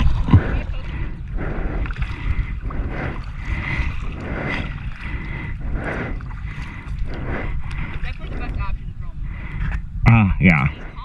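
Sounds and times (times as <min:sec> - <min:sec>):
water swishing around kayak: 0:00.0 - 0:11.0
wind rumbling on microphone: 0:00.0 - 0:11.0.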